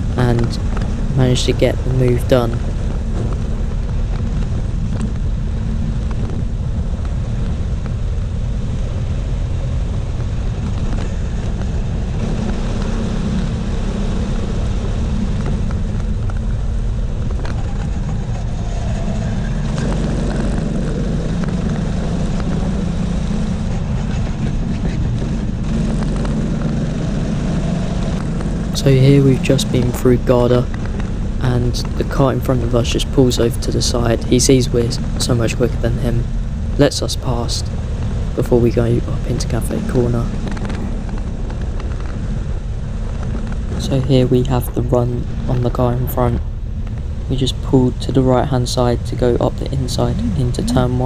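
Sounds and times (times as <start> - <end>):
wind and road noise: 0.0 - 51.0.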